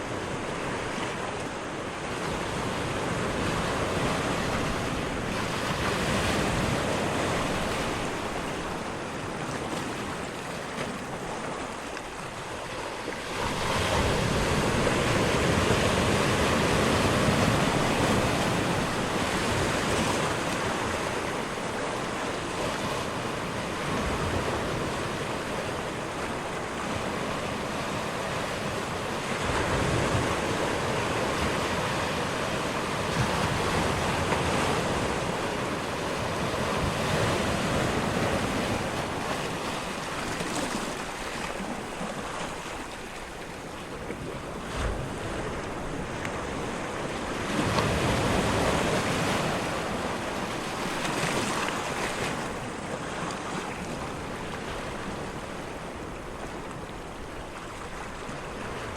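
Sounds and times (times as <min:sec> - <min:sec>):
ocean waves rushing: 0:00.0 - 0:58.9.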